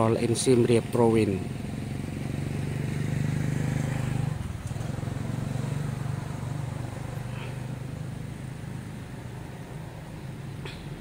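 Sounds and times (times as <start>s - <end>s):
passing vehicle engine drone: 0.0s - 11.0s.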